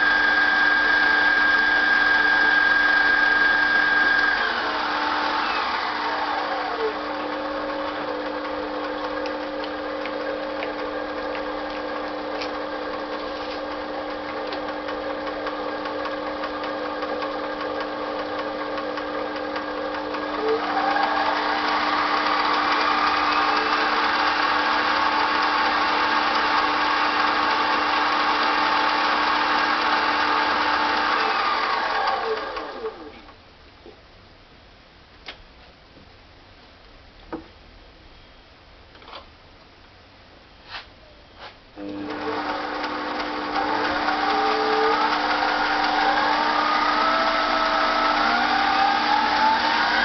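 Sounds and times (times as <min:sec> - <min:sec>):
lathe motor and gears whining: 0:00.0 - 0:33.2, 0:41.8 - 0:50.0.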